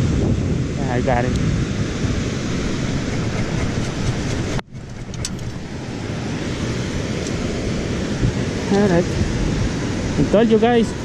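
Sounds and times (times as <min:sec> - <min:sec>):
surf rushing: 0:00.0 - 0:11.0
wind buffeting microphone: 0:00.0 - 0:11.0.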